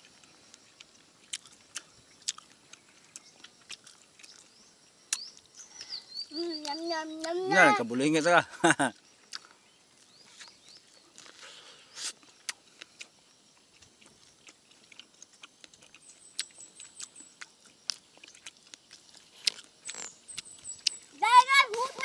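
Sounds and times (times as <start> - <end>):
children chewing corn: 0.0 - 22.0.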